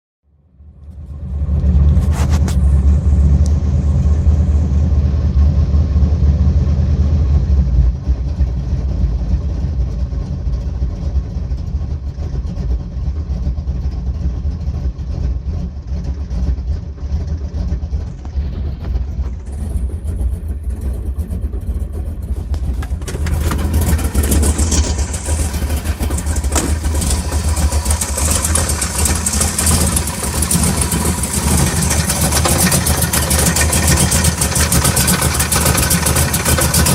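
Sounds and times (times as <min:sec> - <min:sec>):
car engine running: 0:00.4 - 0:36.9.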